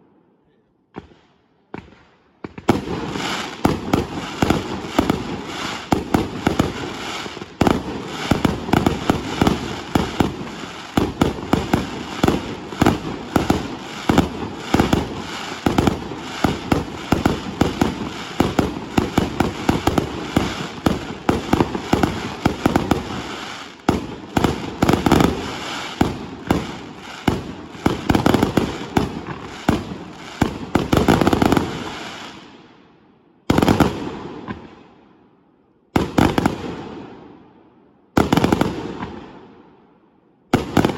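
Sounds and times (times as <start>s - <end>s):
fireworks bangs and crackles: 0.9s - 32.8s, 33.4s - 35.0s, 35.9s - 37.5s, 38.1s - 39.8s, 40.5s - 40.9s.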